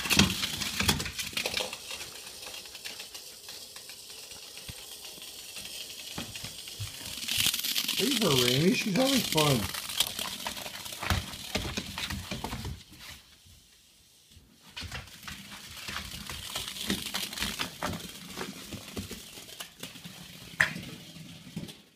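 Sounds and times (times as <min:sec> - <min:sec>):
plastic toy clattering: 0:00.0 - 0:12.8, 0:15.1 - 0:20.9
rustling and crinkling: 0:00.0 - 0:21.9.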